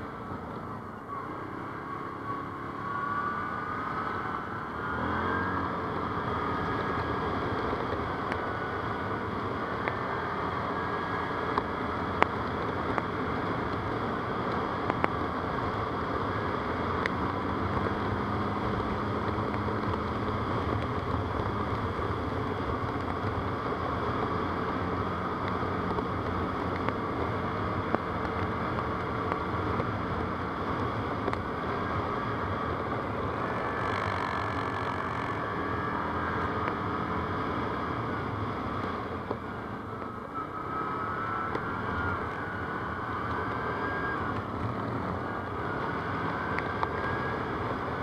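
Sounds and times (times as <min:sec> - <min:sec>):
quad bike engine running: 0:00.0 - 0:48.0.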